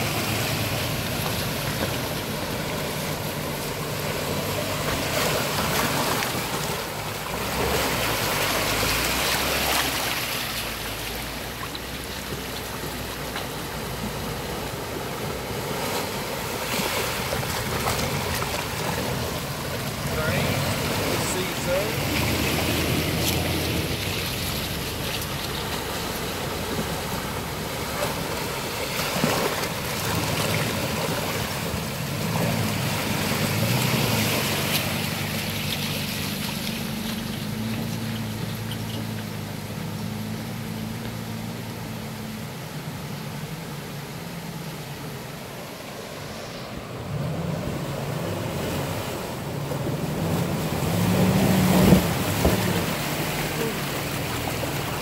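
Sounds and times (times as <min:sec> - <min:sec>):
creek rushing over rocks: 0:00.0 - 0:55.0
truck engines running low: 0:00.0 - 0:55.0
tyres splashing through water: 0:00.0 - 0:55.0.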